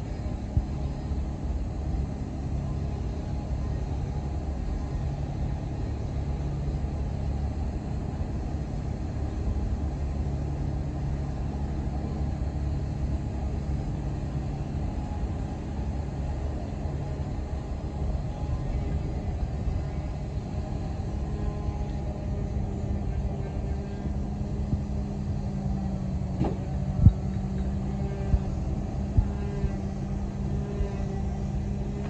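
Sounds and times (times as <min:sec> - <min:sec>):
diesel boat engine droning: 0:00.0 - 0:32.0.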